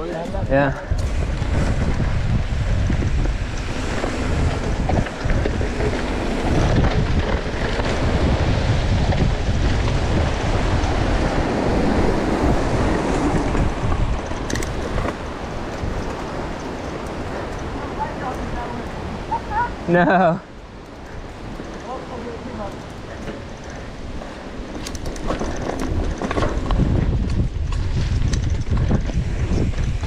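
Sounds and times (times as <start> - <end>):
bike knocks and rattles: 0.0 - 18.5, 21.0 - 30.0
bike tyres rolling on dirt: 0.0 - 30.0
wind rushing over microphone: 0.0 - 30.0.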